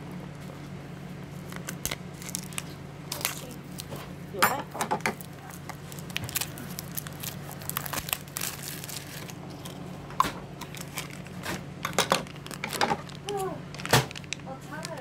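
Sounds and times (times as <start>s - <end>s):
steady low hum: 0.0s - 15.0s
packaging crinkling and tearing: 1.3s - 4.2s, 5.1s - 9.9s, 10.6s - 15.0s.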